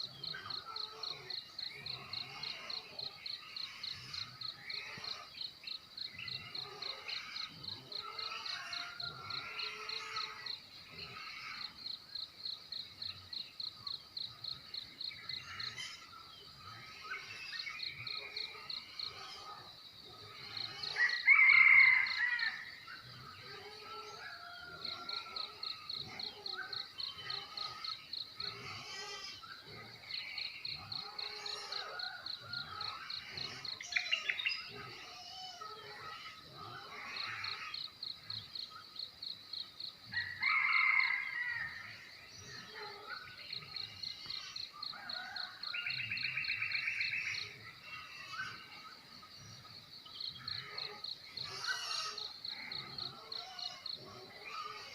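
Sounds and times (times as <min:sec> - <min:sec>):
birds calling and chirping: 0:00.0 - 0:54.9
cricket chirping: 0:00.0 - 0:54.9.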